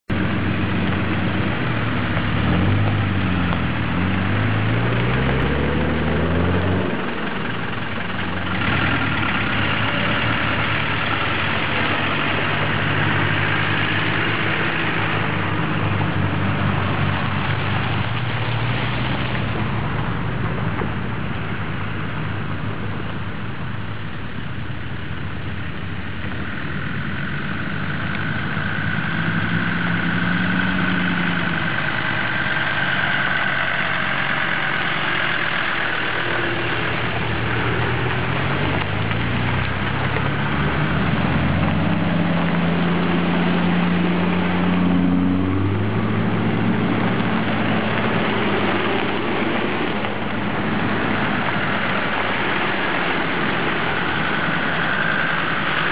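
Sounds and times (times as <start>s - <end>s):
vehicle engines passing at low revs: 0.0s - 55.9s.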